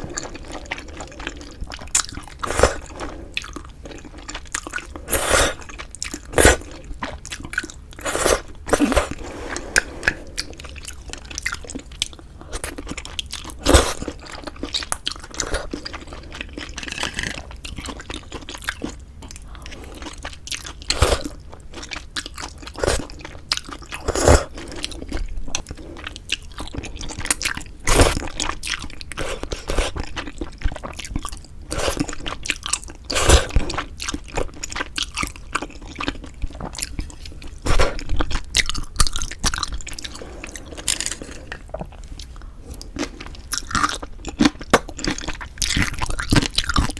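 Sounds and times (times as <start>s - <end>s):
wet chewing: 0.0s - 46.9s.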